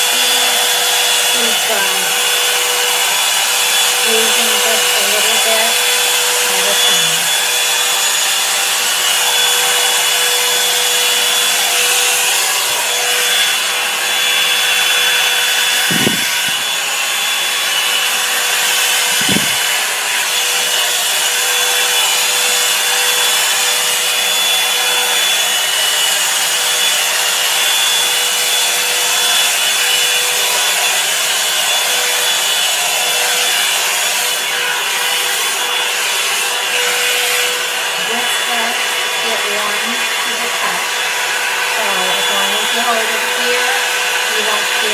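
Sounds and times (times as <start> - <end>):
hair dryer blowing air: 0.0 - 44.9.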